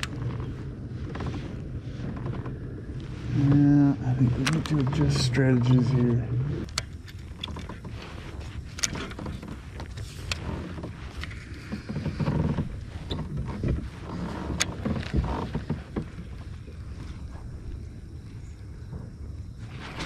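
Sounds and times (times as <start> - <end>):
low uneven rumble: 0.0 - 20.0.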